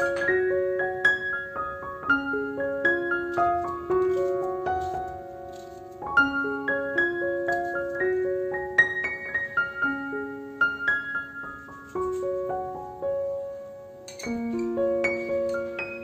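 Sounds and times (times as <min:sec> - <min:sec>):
soft piano melody: 0:00.0 - 0:16.0.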